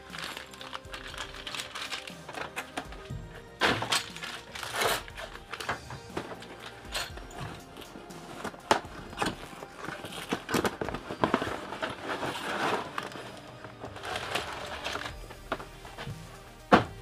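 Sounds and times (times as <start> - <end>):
plastic wrap rustling and crinkling: 0.0 - 17.0.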